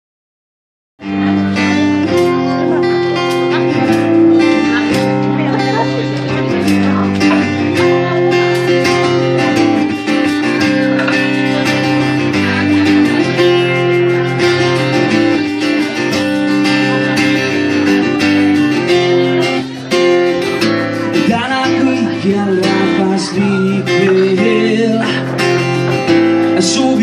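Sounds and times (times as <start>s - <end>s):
acoustic guitar strumming: 1.0s - 27.0s.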